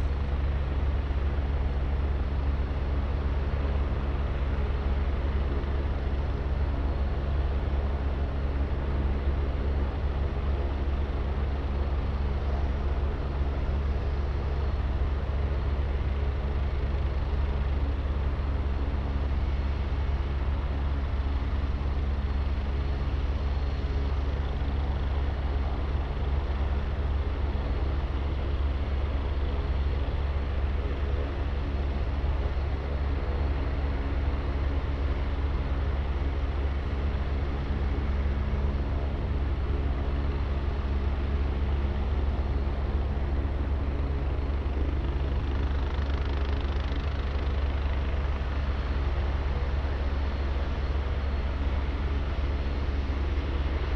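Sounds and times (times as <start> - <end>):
helicopter turbine and rotor drone: 0.0 - 53.9.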